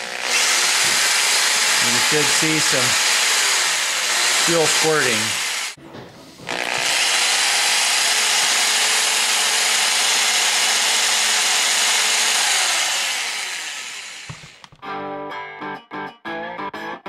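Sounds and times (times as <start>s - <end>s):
electric drill running: 0.0s - 5.8s, 6.5s - 14.8s.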